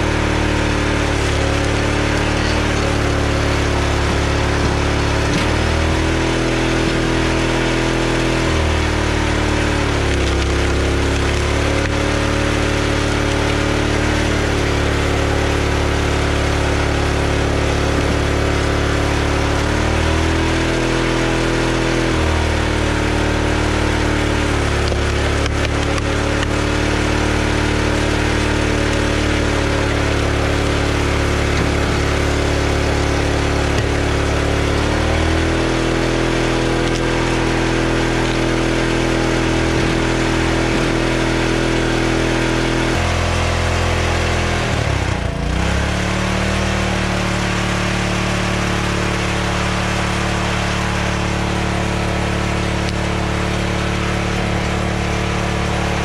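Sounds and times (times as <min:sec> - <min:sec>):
small gas engine running: 0:00.0 - 0:56.0.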